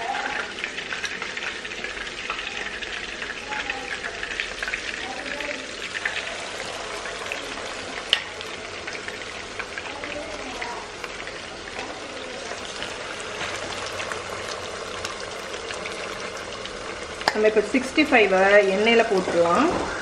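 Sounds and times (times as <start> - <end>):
food deep-frying in oil: 0.0 - 20.0.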